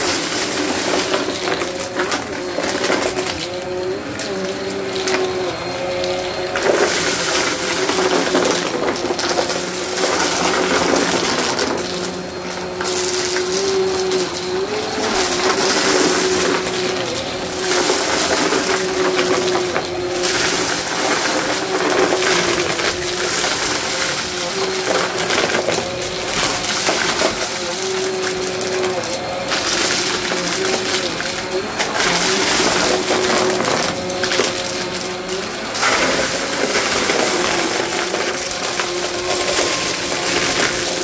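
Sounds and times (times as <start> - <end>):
debris rattling in vacuum: 0.0 - 41.0
vacuum cleaner motor humming: 0.0 - 41.0.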